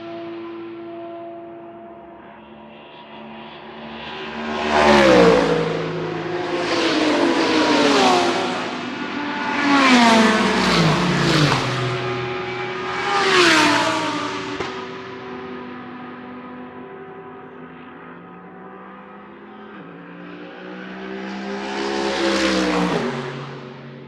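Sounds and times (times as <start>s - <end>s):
race cars passing at speed: 0.0s - 24.0s.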